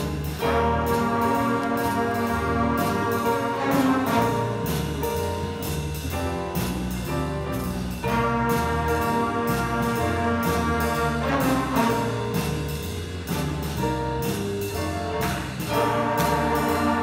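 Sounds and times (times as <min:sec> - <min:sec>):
saxophones and brass chords: 0:00.0 - 0:06.8, 0:07.8 - 0:17.0
percussion beat: 0:00.0 - 0:17.0
piano: 0:00.0 - 0:17.0.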